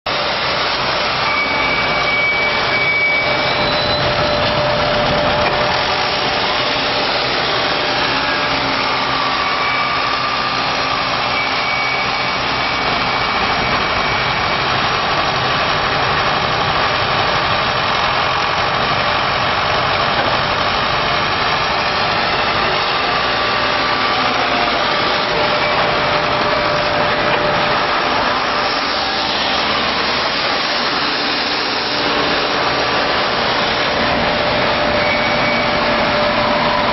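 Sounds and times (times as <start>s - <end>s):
wood chipper running: 0.1s - 36.9s.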